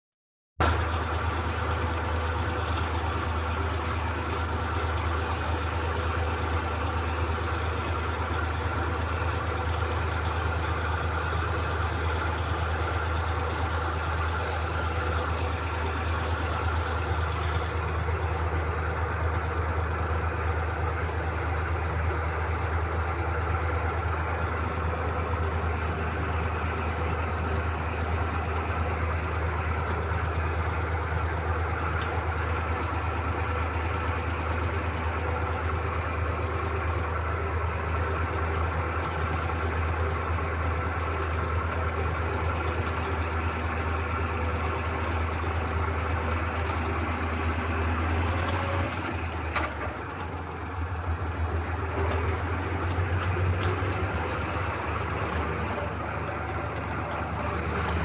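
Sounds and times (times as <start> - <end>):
tractor diesel engine running: 0.6 - 58.0.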